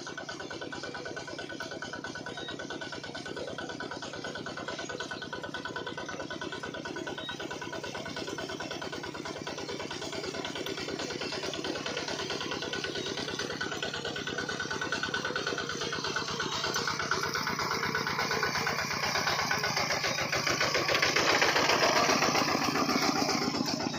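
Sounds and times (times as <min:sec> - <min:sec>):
small water pump motor pulsing: 0:00.0 - 0:23.9.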